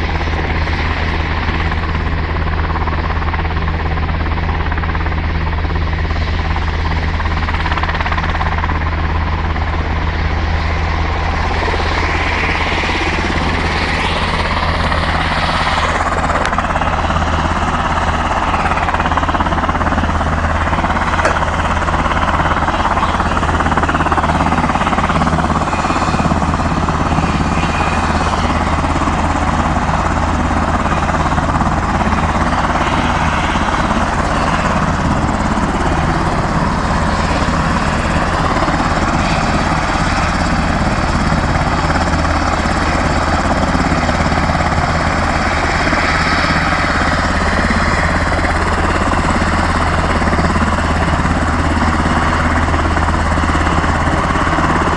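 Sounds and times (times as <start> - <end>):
jet aircraft engine running: 0.0 - 54.9.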